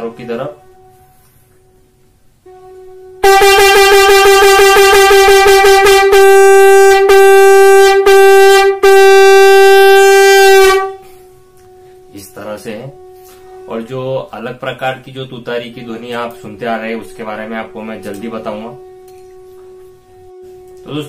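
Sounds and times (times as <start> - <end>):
conch shell blown: 0.0 - 21.0.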